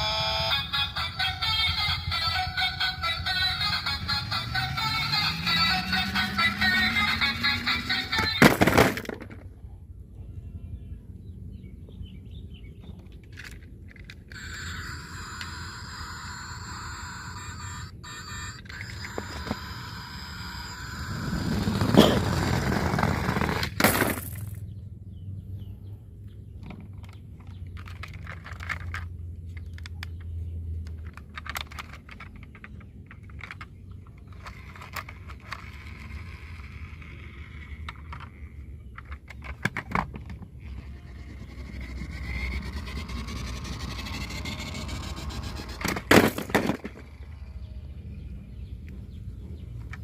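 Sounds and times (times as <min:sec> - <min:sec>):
toy cars clicking and scraping: 0:00.0 - 0:09.5, 0:12.8 - 0:24.6, 0:26.6 - 0:47.7, 0:49.8 - 0:50.0.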